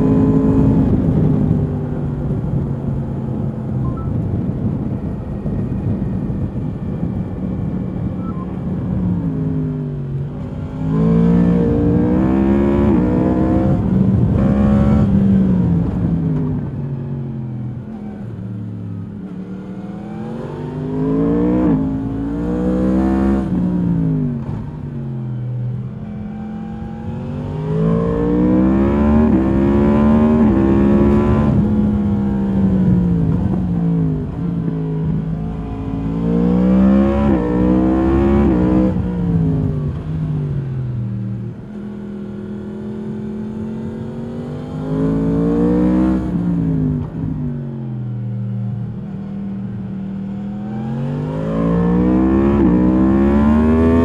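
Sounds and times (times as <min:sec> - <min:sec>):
motorcycle engine revving: 0:09.2 - 0:16.8, 0:18.0 - 0:54.0.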